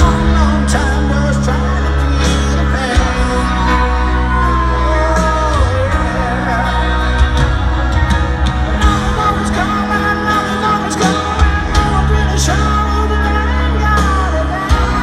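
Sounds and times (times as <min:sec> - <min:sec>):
man singing: 0:00.0 - 0:07.9, 0:08.6 - 0:15.0
bass guitar: 0:00.0 - 0:15.0
drums: 0:00.0 - 0:15.0
piano: 0:00.0 - 0:15.0.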